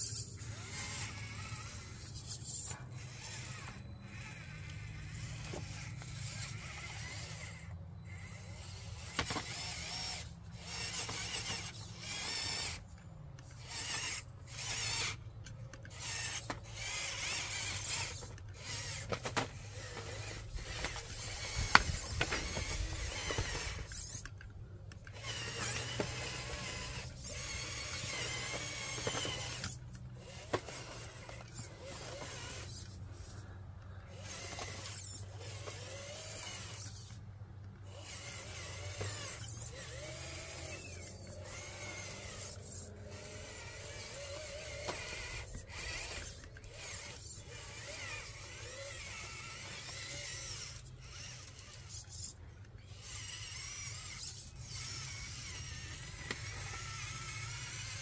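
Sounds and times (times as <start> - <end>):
electric motor whining: 0.0 - 58.0.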